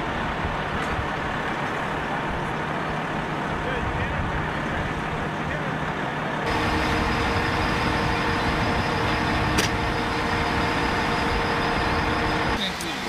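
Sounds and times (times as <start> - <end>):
heavy vehicle engines idling: 0.0 - 13.0.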